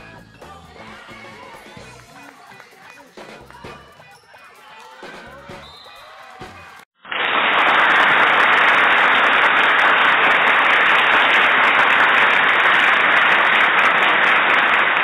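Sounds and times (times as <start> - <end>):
loud applause: 0.5 - 15.0.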